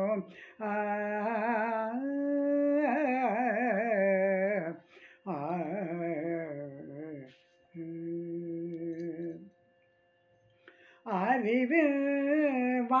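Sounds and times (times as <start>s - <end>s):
devotional singing: 0.0s - 9.5s, 11.1s - 13.0s
faint steady tone: 0.0s - 13.0s.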